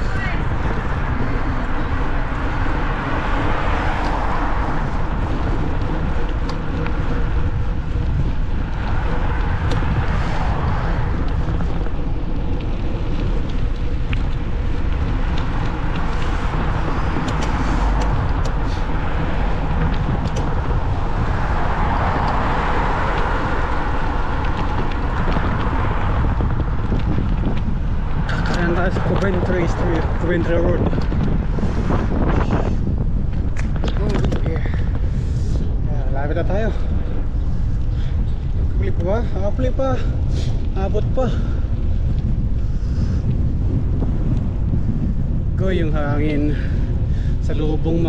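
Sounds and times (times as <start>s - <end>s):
cars passing: 0.0s - 48.0s
wind noise on microphone: 0.0s - 48.0s.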